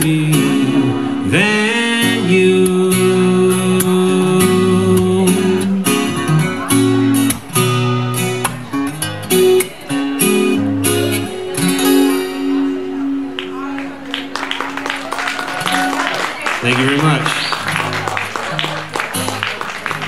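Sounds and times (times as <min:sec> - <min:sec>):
acoustic guitar strumming: 0:00.0 - 0:14.9, 0:15.6 - 0:20.0.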